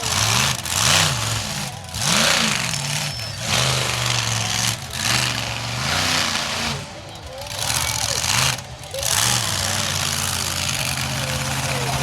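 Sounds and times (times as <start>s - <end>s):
loud exhaust roar: 0.0s - 12.0s
monster truck engine revving: 0.0s - 12.0s.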